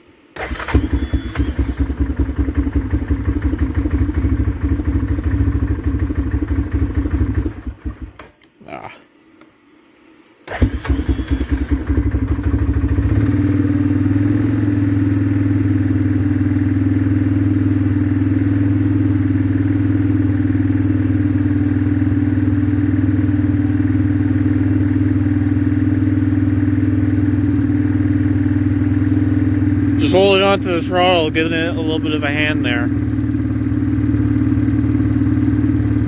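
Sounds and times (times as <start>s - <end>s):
atv engine starting and running: 0.4s - 8.5s, 10.4s - 36.0s.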